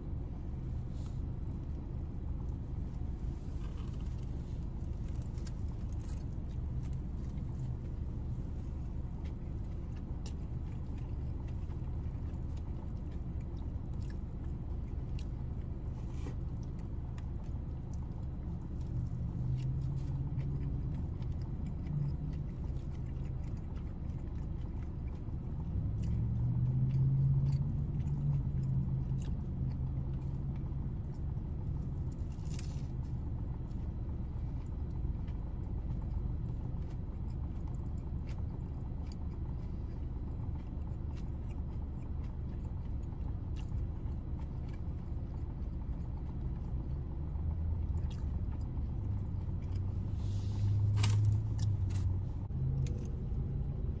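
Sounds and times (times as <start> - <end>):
chewing and biting: 0.0 - 54.0.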